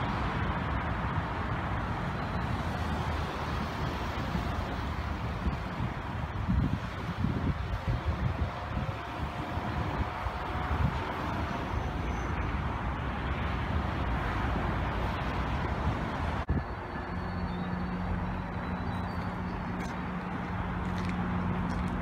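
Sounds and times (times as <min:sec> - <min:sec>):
low engine hum: 0:00.0 - 0:22.0
road traffic noise: 0:00.0 - 0:22.0.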